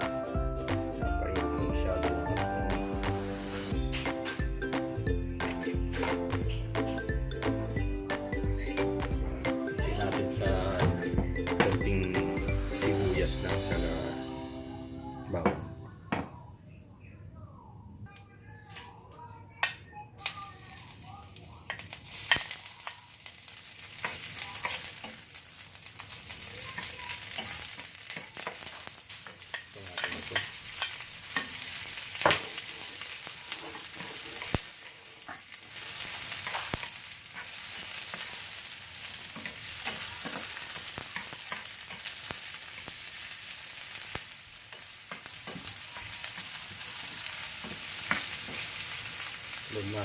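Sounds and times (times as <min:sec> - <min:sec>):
onion and garlic sizzling in oil: 0:01.4 - 0:14.7, 0:20.2 - 0:50.0.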